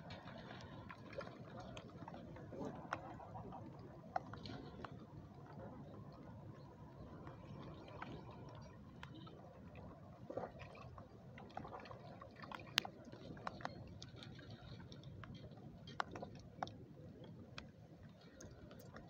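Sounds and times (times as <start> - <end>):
faint irregular clicks: 0.0 - 9.9, 11.4 - 19.0.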